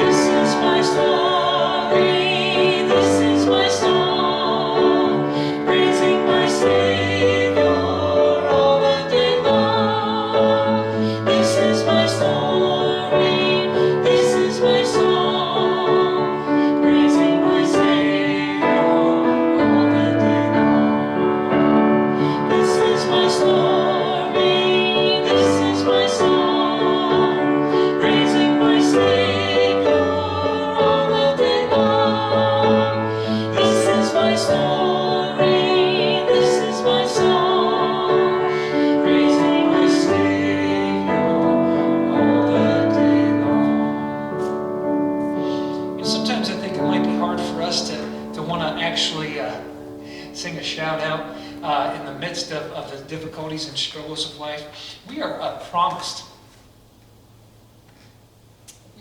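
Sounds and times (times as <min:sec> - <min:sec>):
slow song with sustained singing: 0:00.0 - 0:52.5
piano accompaniment: 0:00.0 - 0:54.5.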